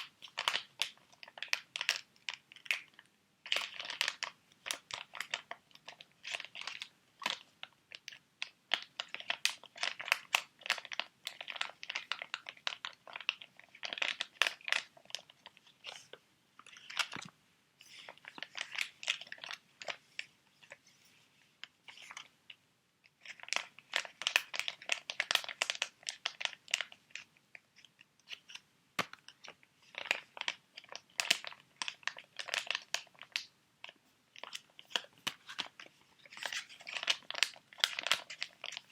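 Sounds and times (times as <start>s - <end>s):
plastic and foil packets crinkling: 0.0s - 20.8s, 23.1s - 38.9s.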